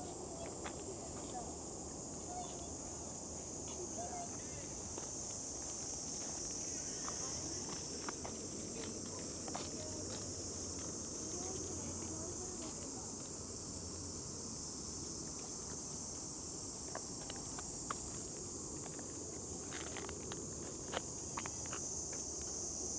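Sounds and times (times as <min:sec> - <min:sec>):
insects chorus: 0:00.0 - 0:22.9.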